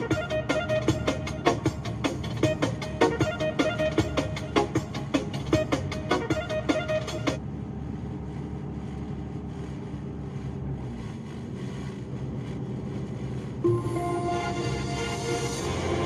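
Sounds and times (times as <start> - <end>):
truck driving rumble: 0.0 - 16.0.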